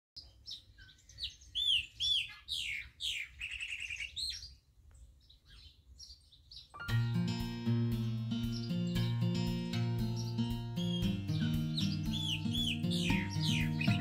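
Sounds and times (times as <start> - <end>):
birds singing and chirping: 0.2 - 14.0.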